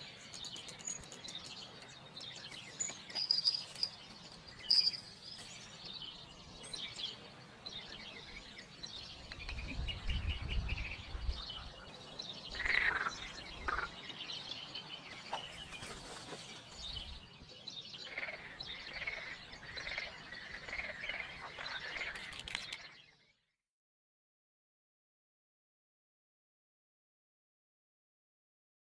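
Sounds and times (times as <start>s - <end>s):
small birds chirping: 0.0s - 23.6s.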